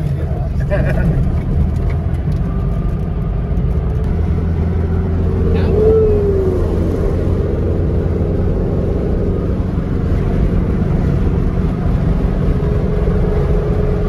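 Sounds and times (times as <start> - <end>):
car engine running steadily: 0.0 - 14.0
road and wind noise: 0.0 - 14.0.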